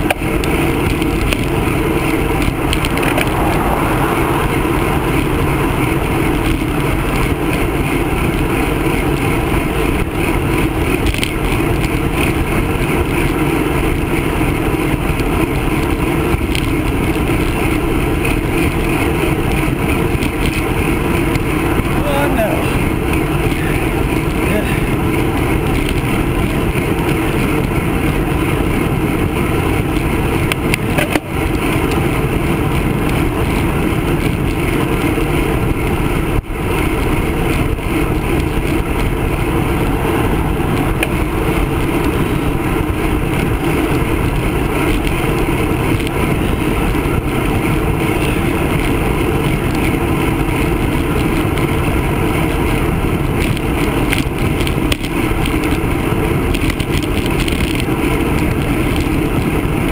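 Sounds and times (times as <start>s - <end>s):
tyre noise on asphalt: 0.0s - 59.9s
wind rushing over microphone: 0.0s - 59.9s.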